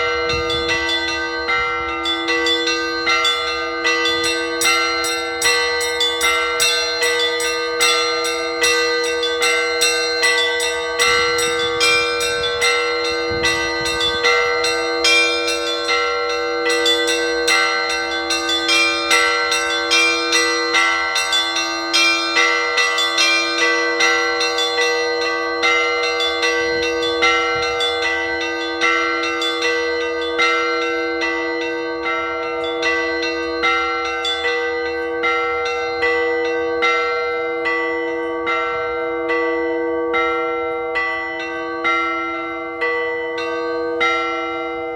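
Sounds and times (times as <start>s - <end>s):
low church bell: 0.0s - 44.9s
small high church bells: 0.0s - 44.9s.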